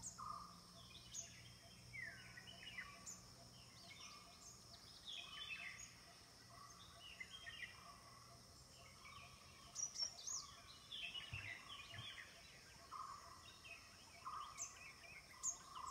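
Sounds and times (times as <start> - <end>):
birds chirping and calling: 0.0 - 15.9.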